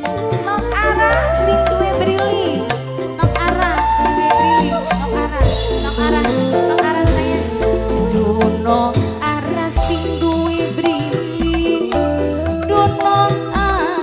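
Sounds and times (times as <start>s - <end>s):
instrumental band music: 0.0s - 14.0s.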